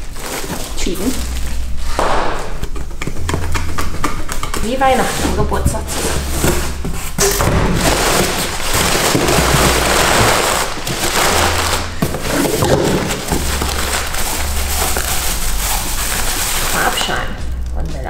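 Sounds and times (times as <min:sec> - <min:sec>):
packaging crackling and rustling: 0:00.0 - 0:17.8
background music with bass: 0:00.0 - 0:18.0.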